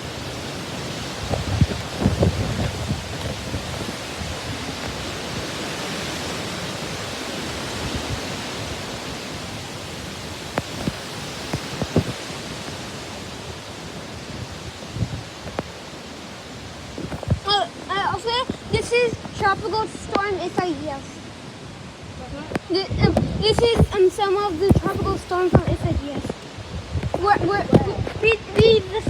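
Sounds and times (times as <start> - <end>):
storm wind rushing: 0.0 - 29.0.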